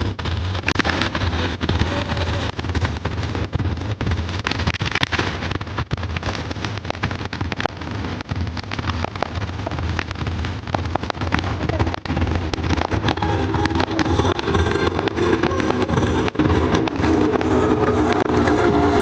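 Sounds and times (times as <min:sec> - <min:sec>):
continuous rumbling din: 0:00.0 - 0:19.0
fireworks bangs and cracks: 0:00.0 - 0:19.0.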